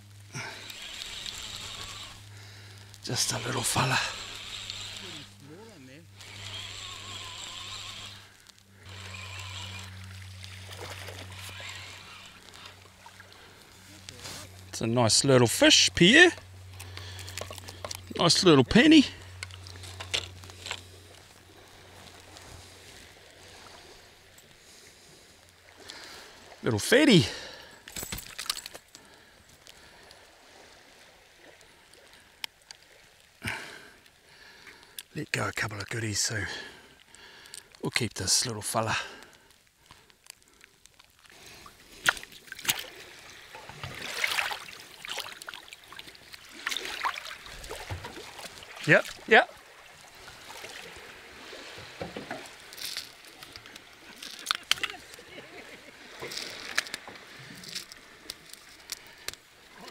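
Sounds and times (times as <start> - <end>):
water sloshing and splashing: 0.0 - 14.9, 16.4 - 26.7, 27.3 - 35.1, 39.2 - 59.9
faint surf: 0.0 - 59.9.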